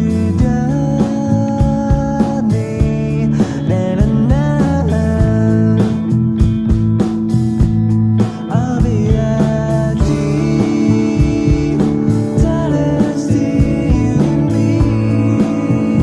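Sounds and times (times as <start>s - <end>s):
song with singing voice and beat: 0.0s - 16.0s.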